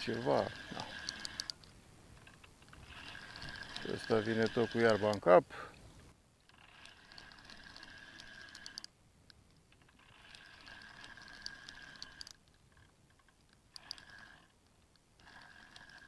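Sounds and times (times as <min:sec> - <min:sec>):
fishing reel whirring and clicking: 0:00.0 - 0:05.4, 0:06.4 - 0:09.0, 0:09.7 - 0:16.0.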